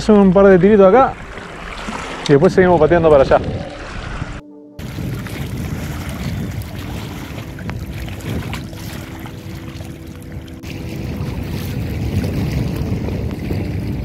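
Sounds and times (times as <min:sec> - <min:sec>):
river water lapping: 0:00.0 - 0:14.0
wind rumbling on microphone: 0:00.0 - 0:14.0.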